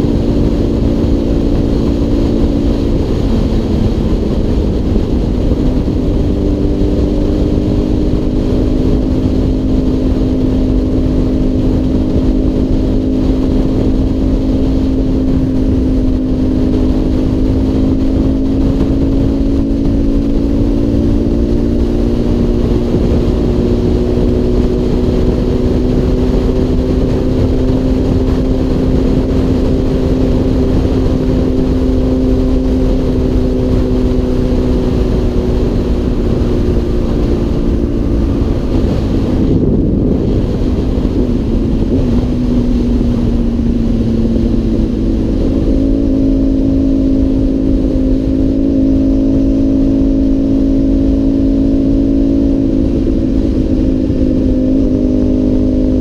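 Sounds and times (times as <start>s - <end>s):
motorcycle engine cruising: 0.0s - 56.0s
wind rushing: 0.0s - 56.0s.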